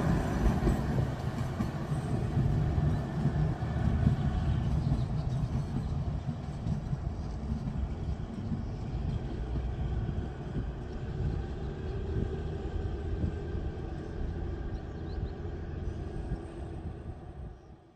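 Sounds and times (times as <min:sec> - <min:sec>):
train rumbling along track: 0:00.0 - 0:17.9.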